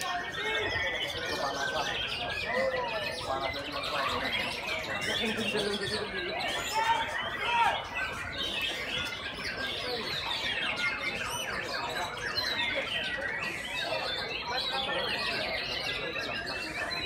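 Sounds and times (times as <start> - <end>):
birds singing whistles and chirps: 0.0 - 17.0.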